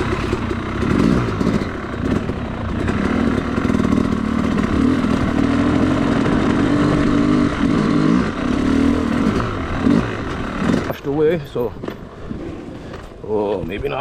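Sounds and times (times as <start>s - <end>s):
dirt bike engine revving: 0.0s - 13.2s.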